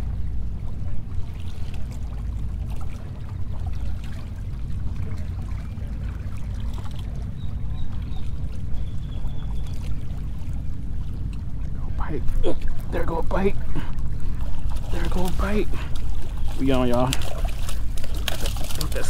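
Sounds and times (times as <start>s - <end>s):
waves sloshing against rocks: 0.0s - 19.0s.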